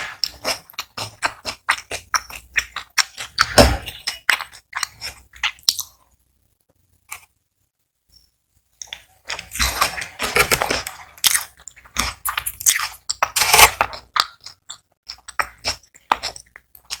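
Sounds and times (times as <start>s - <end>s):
crunchy food being chewed: 0.0s - 6.2s, 8.8s - 17.0s.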